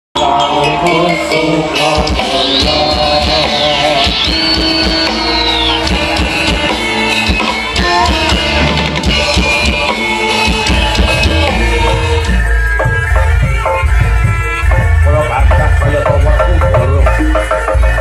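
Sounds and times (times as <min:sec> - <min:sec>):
steady drumming: 0:01.8 - 0:18.0.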